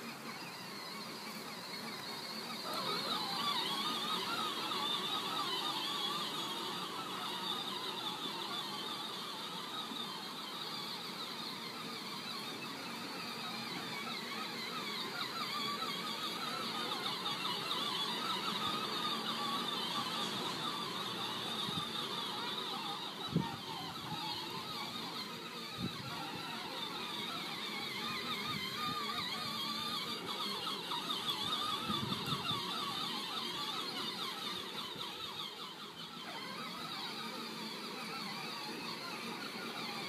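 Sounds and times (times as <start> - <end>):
electric toy vehicle motors whining: 0.0 - 40.0.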